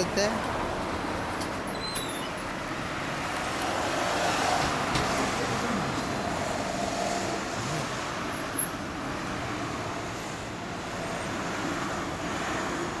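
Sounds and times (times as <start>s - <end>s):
motor vehicle rushing noise: 2.3s - 13.0s.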